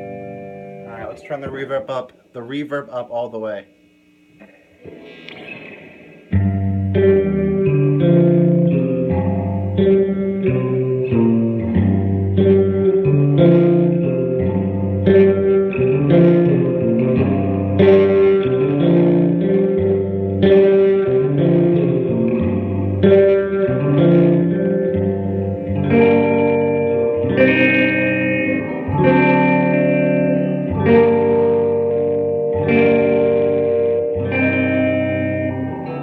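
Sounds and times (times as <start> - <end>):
electric guitar chords with reverb: 0.0 - 2.0, 4.3 - 36.0.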